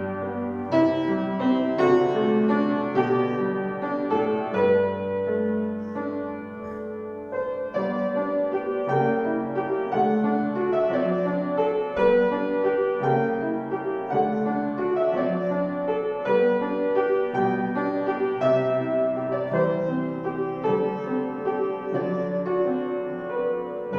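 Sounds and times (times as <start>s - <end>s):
calm piano piece: 0.0s - 23.9s.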